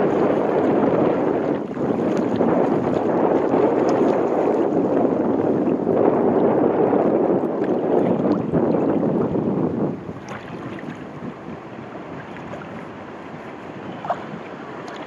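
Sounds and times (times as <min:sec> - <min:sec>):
water splashing from paddling: 0:00.0 - 0:09.2, 0:10.0 - 0:15.0
wind on microphone: 0:00.0 - 0:15.0.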